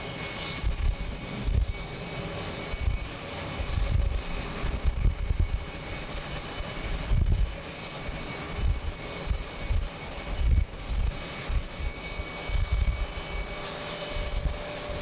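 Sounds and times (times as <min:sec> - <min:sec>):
jet engines at takeoff thrust: 0:00.0 - 0:15.0
gusty wind on microphone: 0:00.1 - 0:15.0.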